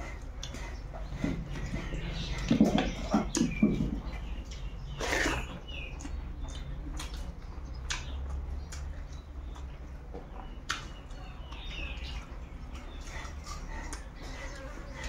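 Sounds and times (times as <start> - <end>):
person chewing with wet mouth sounds: 0.0 - 15.0.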